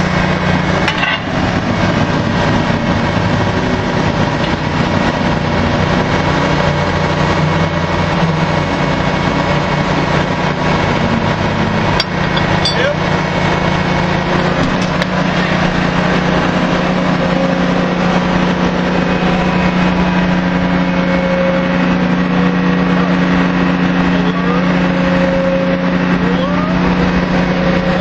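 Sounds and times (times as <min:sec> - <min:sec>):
constant low hum: 0:00.0 - 0:28.0
drilling machinery drone: 0:00.0 - 0:28.0
short rising whines: 0:00.0 - 0:28.0.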